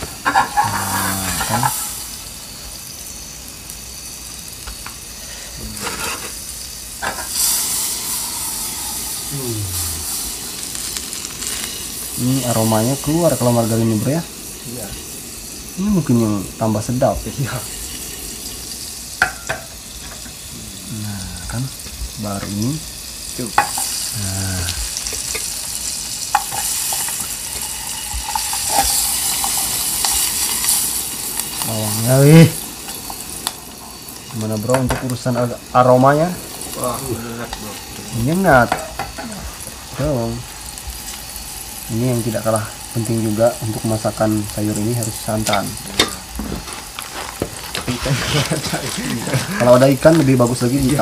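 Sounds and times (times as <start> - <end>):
margarine sizzling in a pan: 0.0 - 51.0.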